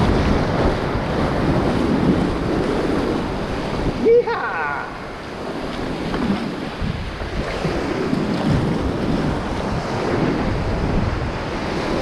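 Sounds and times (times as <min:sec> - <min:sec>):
sea waves sloshing: 0:00.0 - 0:12.0
wind buffeting microphone: 0:00.0 - 0:12.0.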